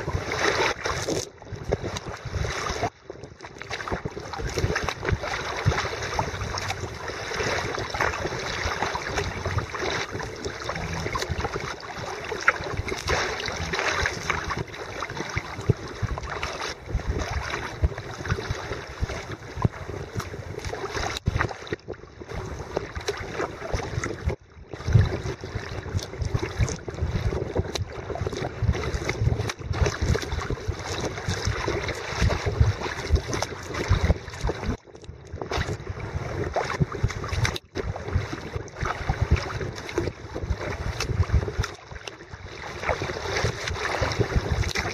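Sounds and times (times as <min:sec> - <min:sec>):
water rushing and splashing: 0:00.0 - 0:44.9
wind buffeting microphone: 0:00.0 - 0:44.9.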